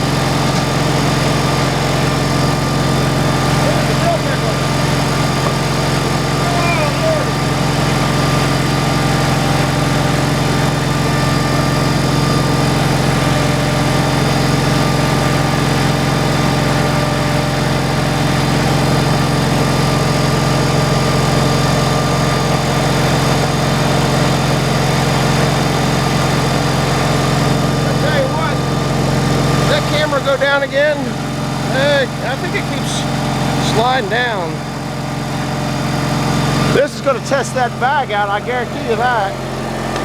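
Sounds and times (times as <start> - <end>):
engine running steadily: 0.0 - 40.0.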